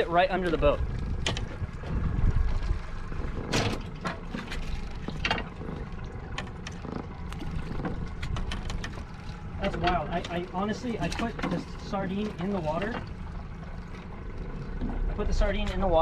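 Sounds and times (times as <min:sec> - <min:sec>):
boat rumble: 0:00.0 - 0:16.0.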